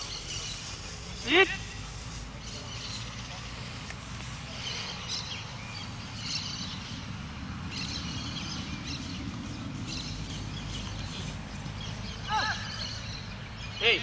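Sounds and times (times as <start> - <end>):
steady low rumble: 0.0 - 13.6
birds chirping: 0.0 - 14.0.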